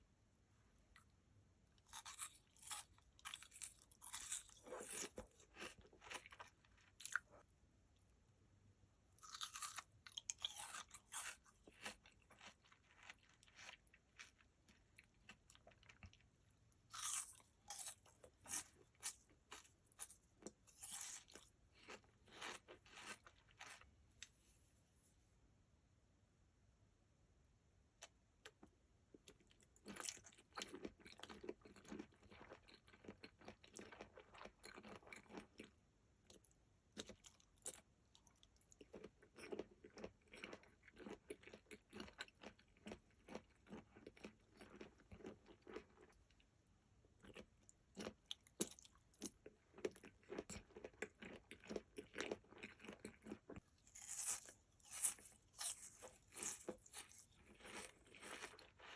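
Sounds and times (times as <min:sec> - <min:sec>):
crunchy candy chewing: 0:01.8 - 0:07.4, 0:09.2 - 0:16.3, 0:16.9 - 0:23.9, 0:29.2 - 0:46.2, 0:47.2 - 0:58.9.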